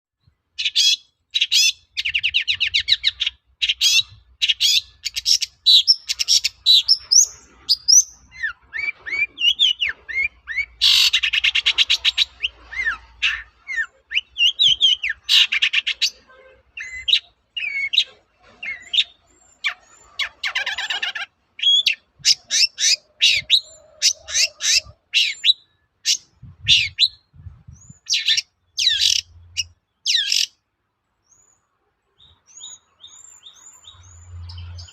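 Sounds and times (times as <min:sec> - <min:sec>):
bird singing with rattles: 0:00.6 - 0:30.6.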